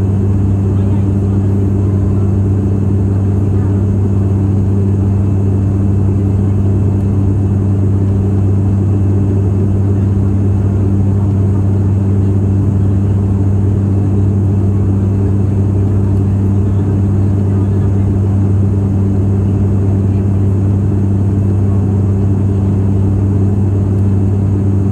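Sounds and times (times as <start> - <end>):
turboprop engines droning in cabin: 0.0 - 24.9.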